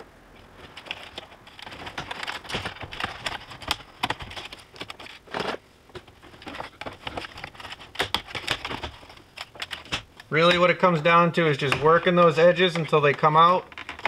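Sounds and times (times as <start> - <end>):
plastic clicks and crackles: 0.6 - 10.6, 12.6 - 14.0.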